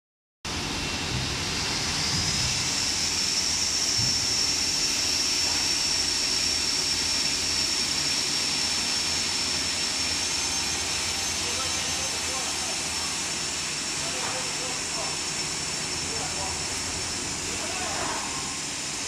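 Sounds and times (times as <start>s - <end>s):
beam saw whining: 0.5s - 19.0s.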